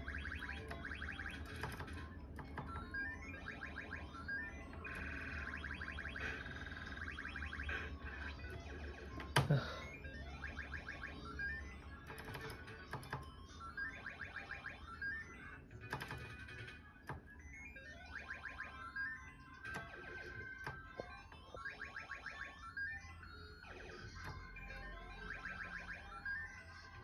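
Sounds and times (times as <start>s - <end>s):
arcade machine beeps and jingles: 0.0s - 27.0s.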